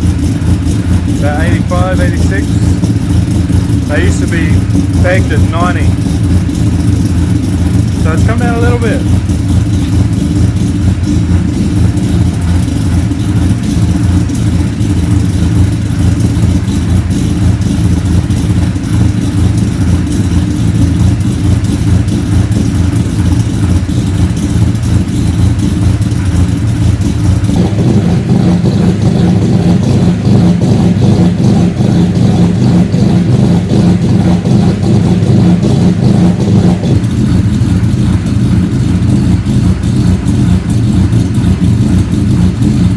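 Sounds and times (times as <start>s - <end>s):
car engine with deep exhaust note: 0.0s - 42.9s.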